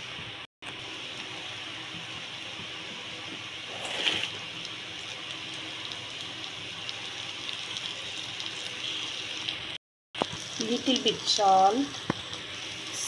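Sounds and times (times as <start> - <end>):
cabbage sizzling in hot pan: 0.8 - 13.0.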